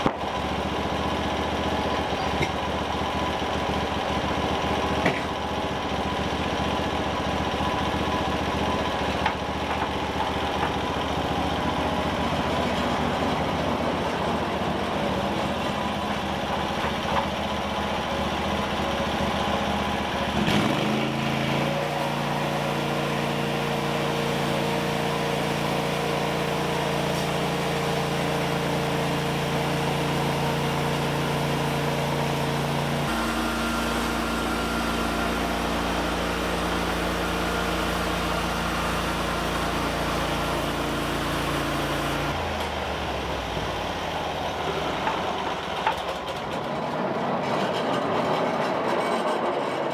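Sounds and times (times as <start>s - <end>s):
small petrol engine running: 0.0s - 49.9s.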